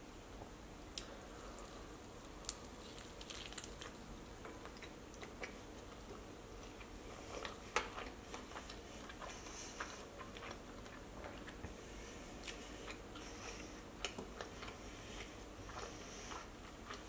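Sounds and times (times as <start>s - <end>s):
close-miked chewing: 1.0s - 17.0s.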